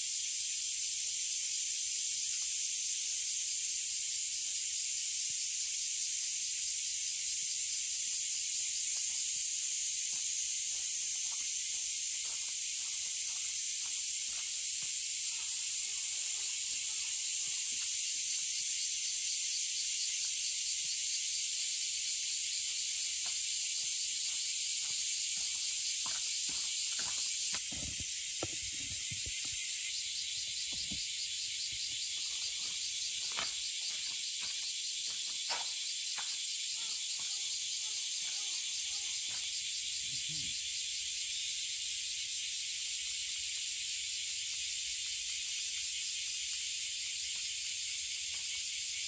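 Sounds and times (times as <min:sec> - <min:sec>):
cicadas buzzing: 0:00.0 - 0:49.0.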